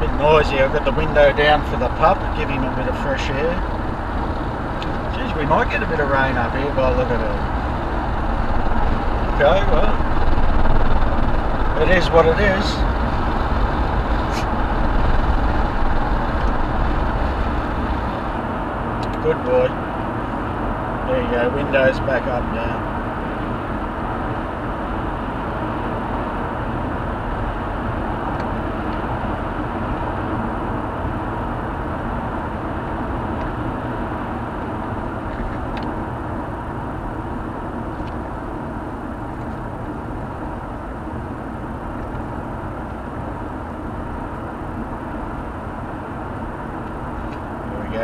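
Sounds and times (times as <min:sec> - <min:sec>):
car road and engine noise: 0:00.0 - 0:48.0.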